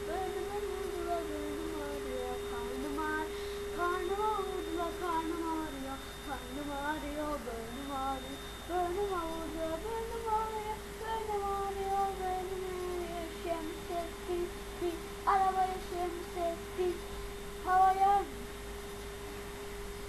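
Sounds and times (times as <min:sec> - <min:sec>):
boy singing: 0:00.0 - 0:17.0, 0:17.6 - 0:18.4
steady tone: 0:00.0 - 0:18.8.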